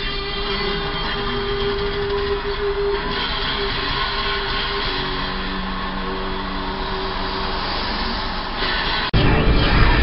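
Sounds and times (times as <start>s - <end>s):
car engine idling: 0.2s - 9.1s.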